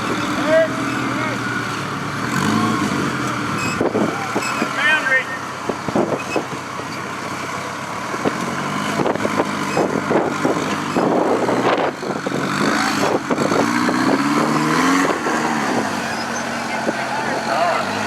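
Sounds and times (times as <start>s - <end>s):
buggy engine running under load: 0.0s - 18.0s.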